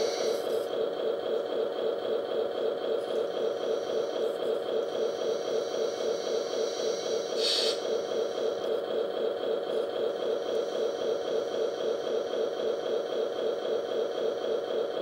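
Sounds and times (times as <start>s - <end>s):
hydraulic pump pulsing drone: 0.0s - 15.0s.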